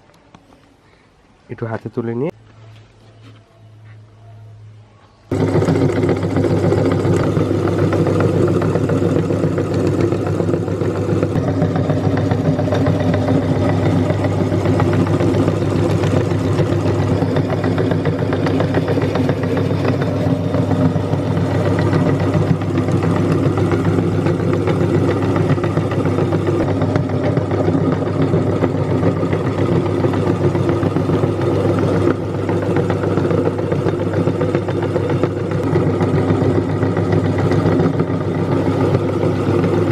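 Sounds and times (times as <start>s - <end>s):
electric meat grinder motor hum: 5.3s - 39.9s.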